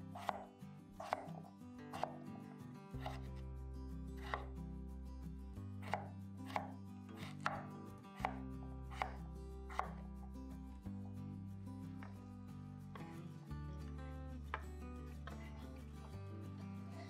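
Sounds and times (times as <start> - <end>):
background music with held chords: 0.0 - 17.0.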